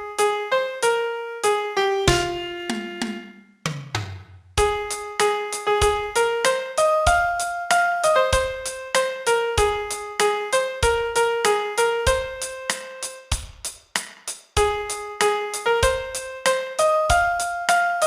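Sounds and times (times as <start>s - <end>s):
piano melody: 0.0s - 3.5s, 4.6s - 13.4s, 14.6s - 18.0s.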